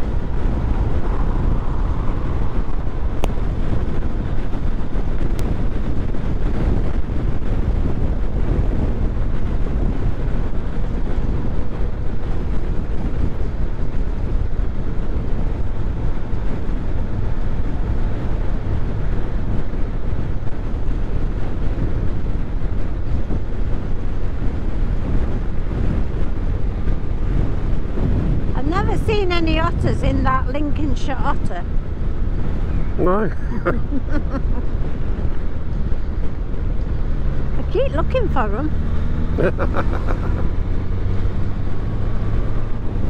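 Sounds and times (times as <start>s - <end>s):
vehicle road and engine noise: 0.0s - 43.0s
wind rushing over microphone: 0.0s - 43.0s.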